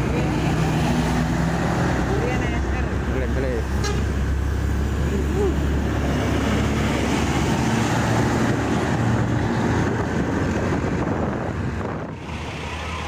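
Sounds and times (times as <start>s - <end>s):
heavy truck engine passing: 0.0s - 13.0s
road and wind noise: 0.0s - 13.0s.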